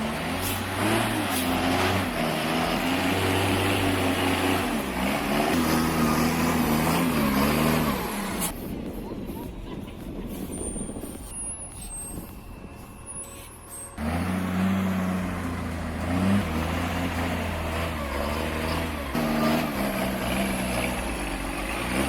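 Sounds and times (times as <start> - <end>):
truck engine labouring: 0.0 - 22.0.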